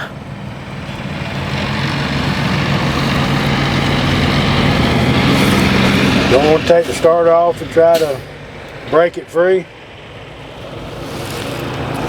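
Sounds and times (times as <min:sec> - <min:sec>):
motor engine humming: 0:00.0 - 0:12.0.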